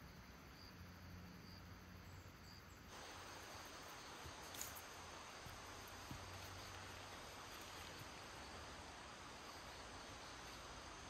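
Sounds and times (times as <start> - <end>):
insects hissing: 0.0 - 11.0.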